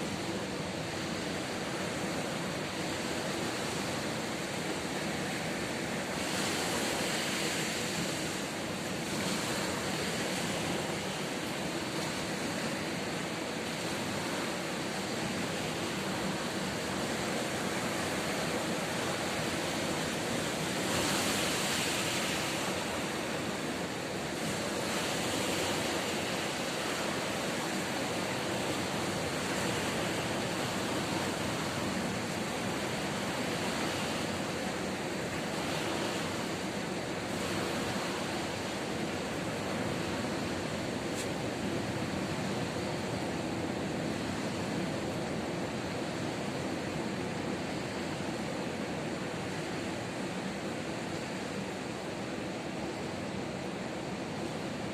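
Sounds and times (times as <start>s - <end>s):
ocean surf on shore: 0.0s - 54.9s.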